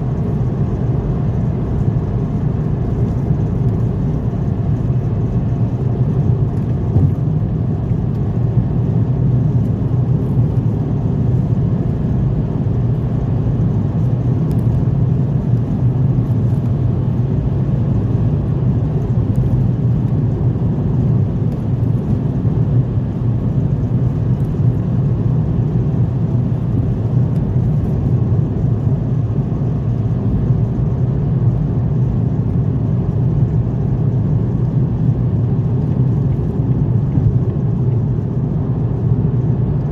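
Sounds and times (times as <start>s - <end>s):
car driving: 0.0s - 39.9s.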